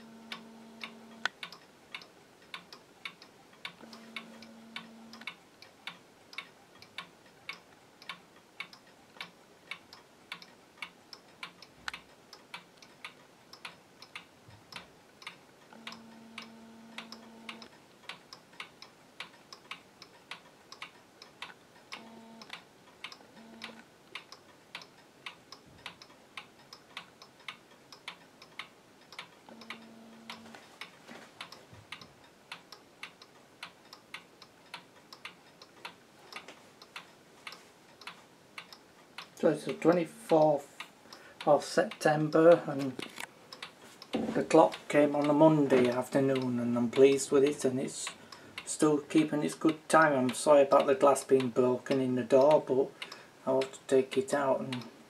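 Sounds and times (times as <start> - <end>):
wall clock ticking: 0.0 - 55.0.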